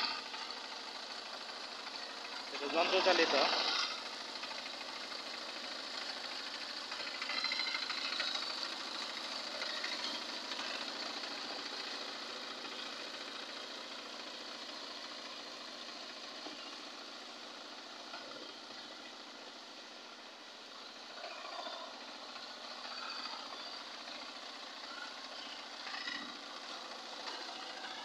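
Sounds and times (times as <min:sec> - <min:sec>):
diesel engine knocking: 0:00.0 - 0:20.3, 0:21.8 - 0:28.0.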